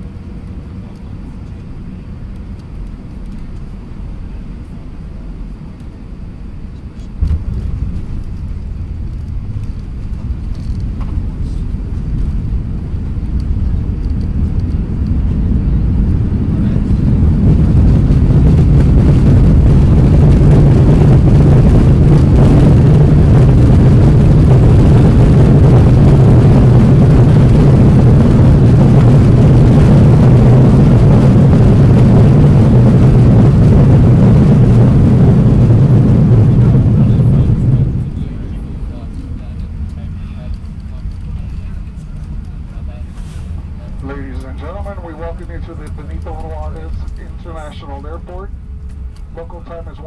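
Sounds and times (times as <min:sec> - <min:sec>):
jet engines and runway rolling: 0:00.0 - 0:50.0.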